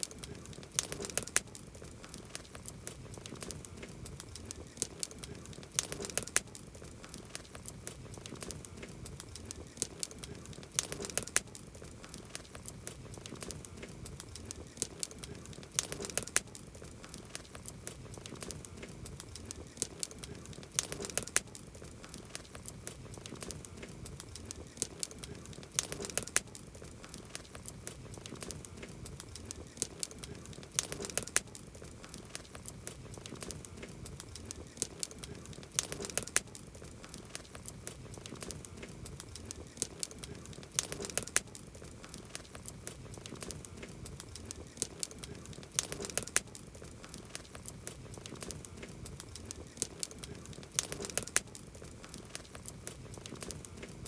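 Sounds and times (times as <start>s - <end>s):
campfire crackling: 0.0s - 54.0s
loud fire pops: 0.0s - 54.0s.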